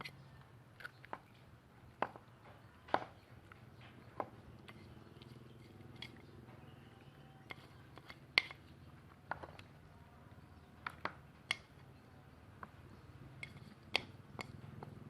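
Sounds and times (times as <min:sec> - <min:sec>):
utensils clicking and tapping: 0:00.8 - 0:09.8, 0:10.8 - 0:15.0.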